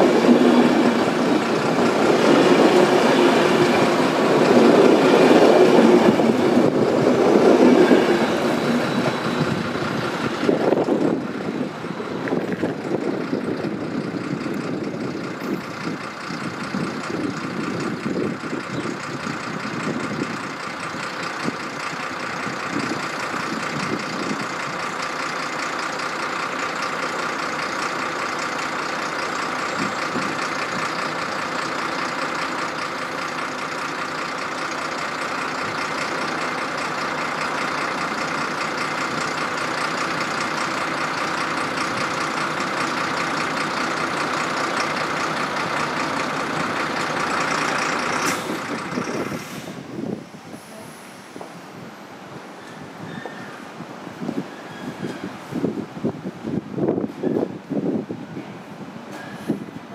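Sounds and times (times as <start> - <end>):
electric train running: 0.0 - 52.4.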